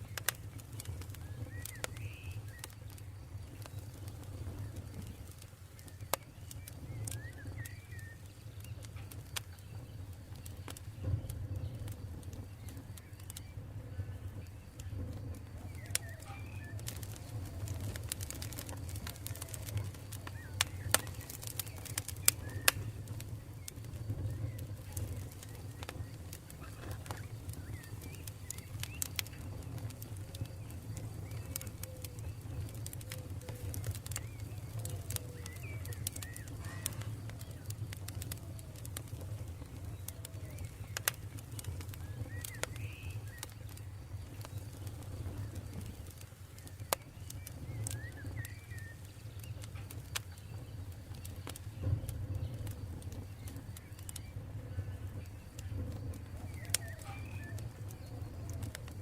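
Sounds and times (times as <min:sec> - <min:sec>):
campfire crackling and popping: 0:00.0 - 0:59.0
faint bird calls: 0:01.0 - 0:59.0.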